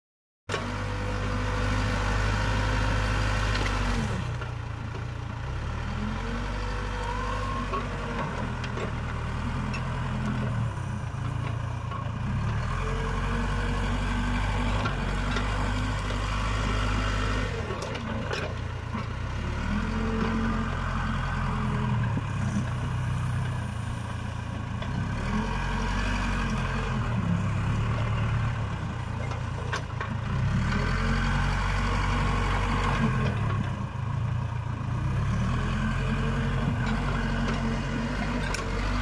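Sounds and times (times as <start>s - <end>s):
diesel engine running under load: 0.5s - 39.0s.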